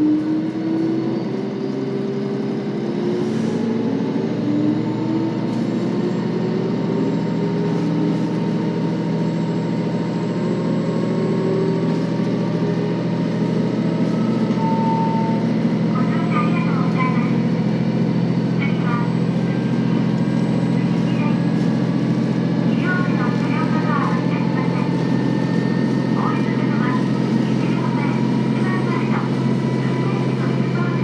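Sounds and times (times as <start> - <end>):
diesel railcar engine drone: 0.0 - 31.0.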